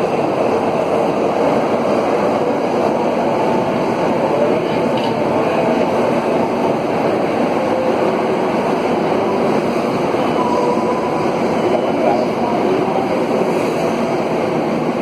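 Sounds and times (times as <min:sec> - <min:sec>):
metro wheels rumbling on rail: 0:00.0 - 0:15.0.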